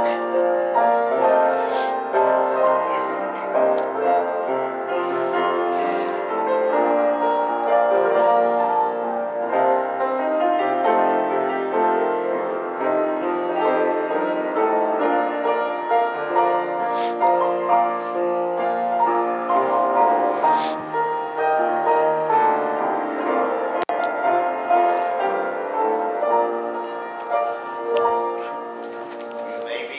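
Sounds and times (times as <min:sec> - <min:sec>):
slow piano music: 0:00.0 - 0:29.9.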